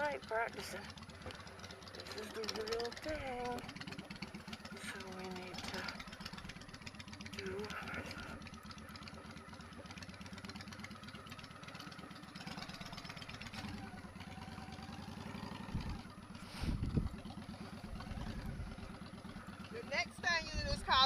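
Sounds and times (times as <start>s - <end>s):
low engine rumbles: 0.0s - 21.0s
motorcycle engine idling: 0.0s - 21.0s.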